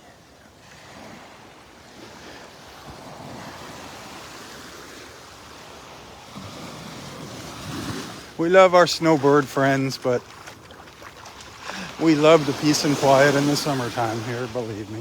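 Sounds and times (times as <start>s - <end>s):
surf washing onto sand: 0.6s - 15.0s.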